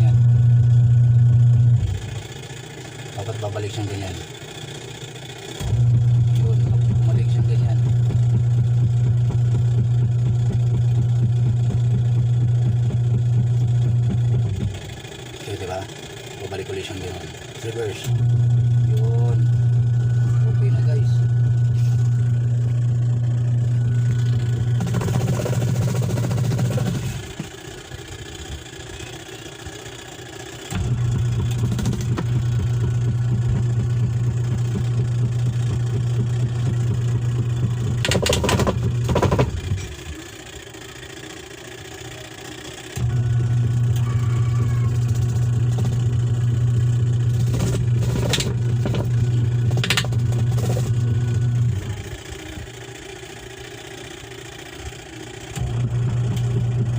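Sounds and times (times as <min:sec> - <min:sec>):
washing machine motor humming: 0:00.0 - 0:56.9.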